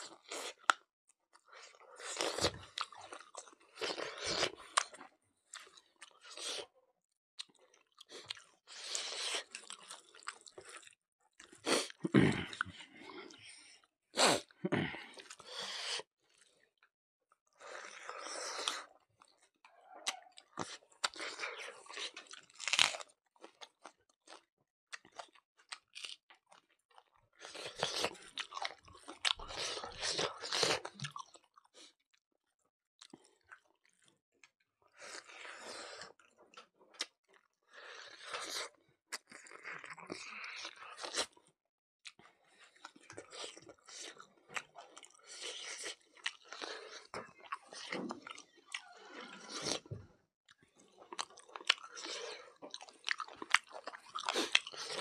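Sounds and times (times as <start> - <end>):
chewing and crunching food: 0.0 - 6.8, 7.4 - 55.0.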